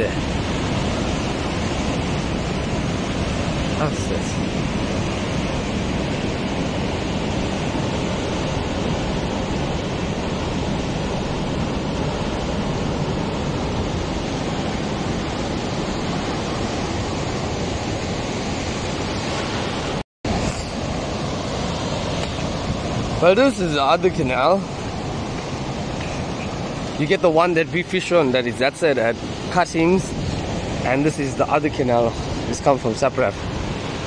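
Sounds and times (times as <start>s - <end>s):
waves breaking on rocky shore: 0.0s - 34.0s.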